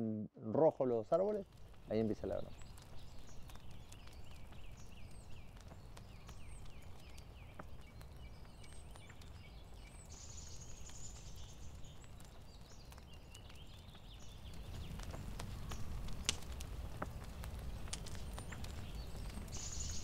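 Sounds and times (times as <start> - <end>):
birds chirping: 0.6 - 20.0.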